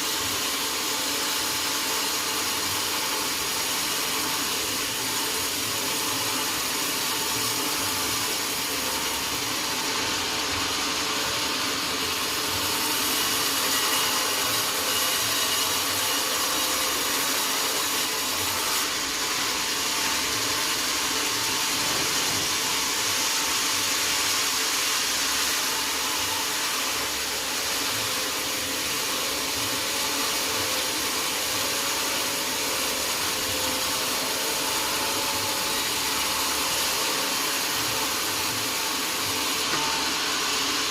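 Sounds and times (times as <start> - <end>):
sawmill saw cutting wood: 0.0 - 40.9.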